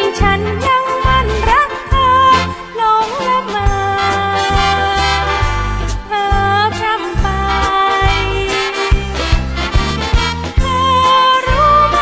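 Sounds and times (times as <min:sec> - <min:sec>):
song with band accompaniment: 0:00.0 - 0:12.0.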